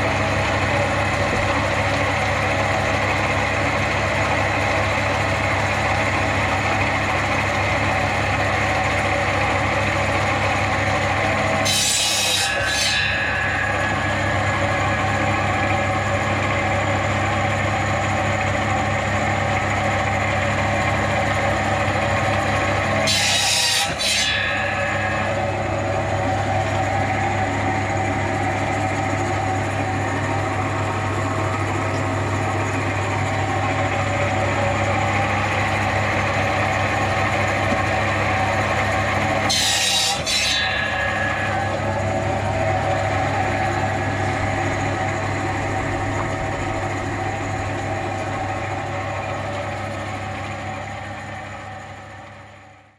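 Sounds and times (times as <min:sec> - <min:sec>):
heavy machine engine running: 0:00.0 - 0:11.7, 0:12.6 - 0:39.9, 0:40.6 - 0:52.9.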